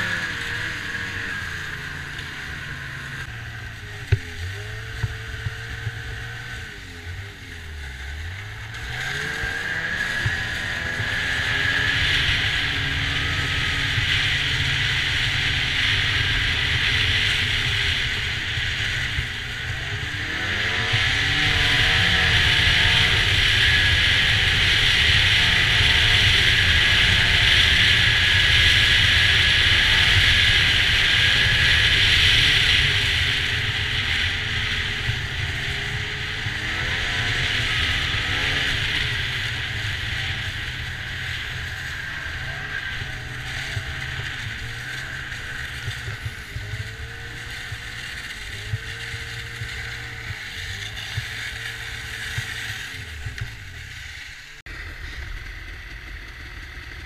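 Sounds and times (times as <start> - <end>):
snowmobile engine and track: 0.0 - 57.0.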